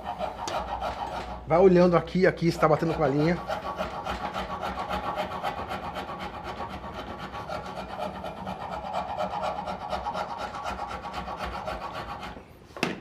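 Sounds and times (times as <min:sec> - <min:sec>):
rasp scraping wood: 0:00.0 - 0:12.5.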